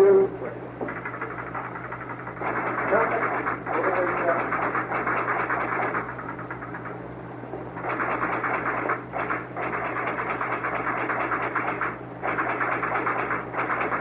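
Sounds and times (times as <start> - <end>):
electrical hum: 0.0 - 14.0
telegraph equipment clattering: 0.8 - 7.0, 7.8 - 14.0.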